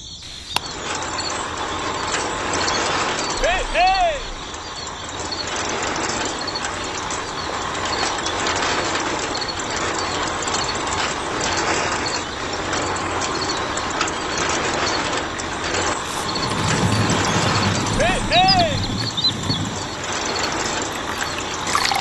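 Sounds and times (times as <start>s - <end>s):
model concrete mixer running: 0.5s - 22.0s.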